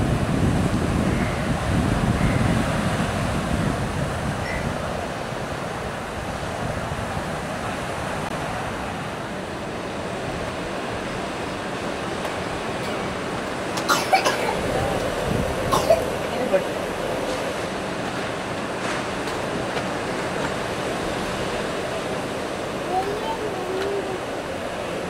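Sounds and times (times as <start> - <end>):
sea surf breaking on beach: 0.0 - 25.0.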